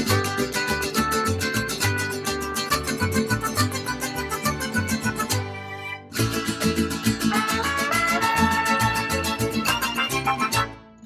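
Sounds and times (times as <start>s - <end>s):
upbeat guitar music with beat: 0.0s - 11.0s.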